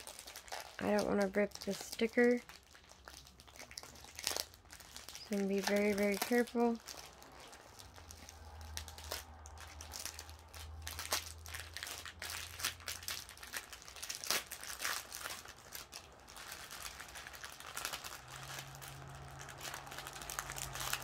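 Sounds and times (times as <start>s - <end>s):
plastic bags crinkling: 0.0s - 21.0s.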